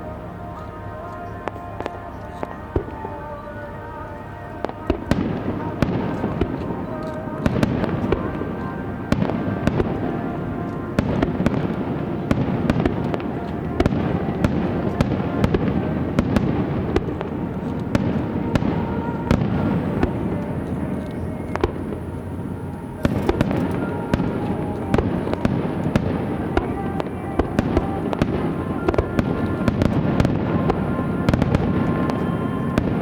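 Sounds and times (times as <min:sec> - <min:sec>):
low rumble of explosions: 0:00.0 - 0:33.0.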